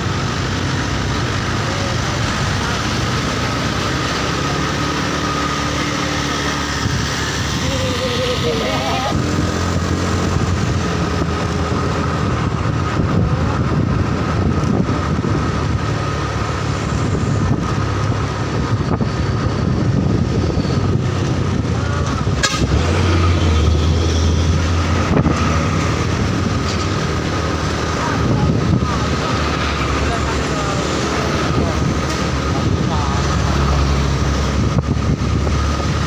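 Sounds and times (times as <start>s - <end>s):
truck engine rumbling: 0.0s - 36.0s.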